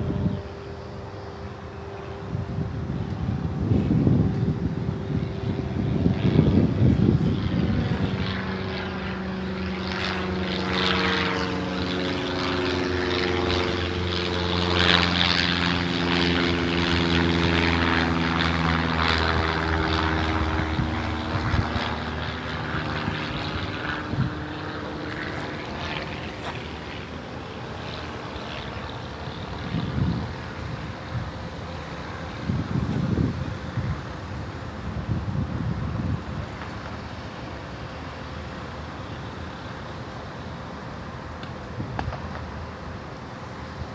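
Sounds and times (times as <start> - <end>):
propeller airplane flying overhead: 0.0 - 43.9.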